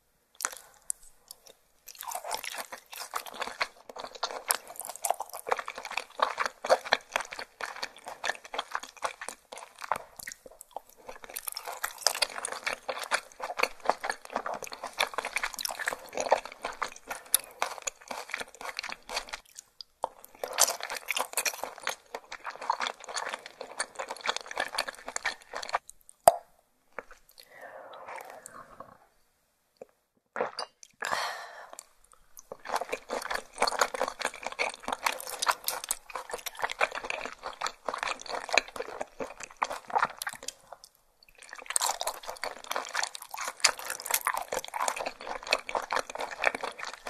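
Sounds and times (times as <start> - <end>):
wet chewing clicks and smacks: 0.4 - 27.4, 31.8 - 47.0.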